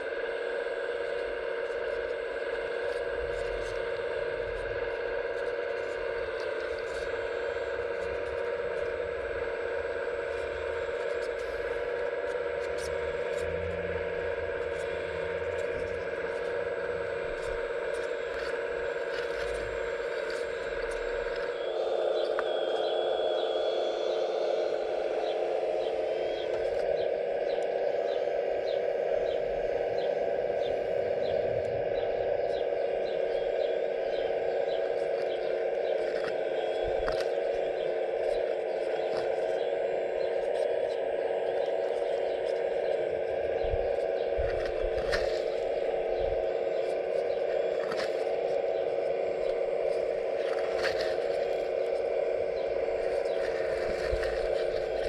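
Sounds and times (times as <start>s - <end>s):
hydraulic pump whining: 0.0s - 55.0s.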